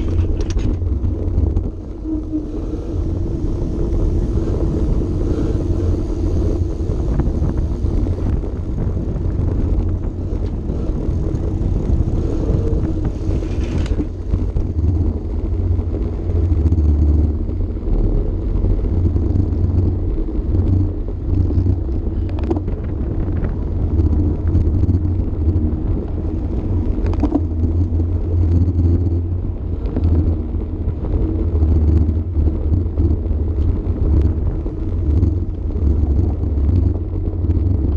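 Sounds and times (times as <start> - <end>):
tyre and road noise: 0.0 - 37.9
wind buffeting microphone: 0.0 - 37.9.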